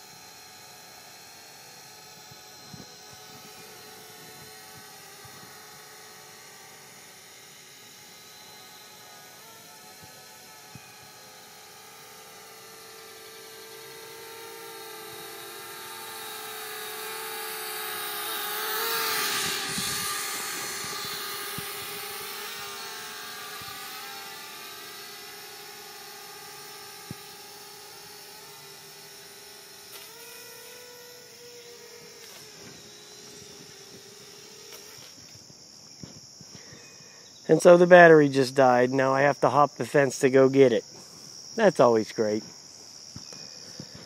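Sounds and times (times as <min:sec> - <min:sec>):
toy quadcopter buzzing: 0:00.0 - 0:44.0.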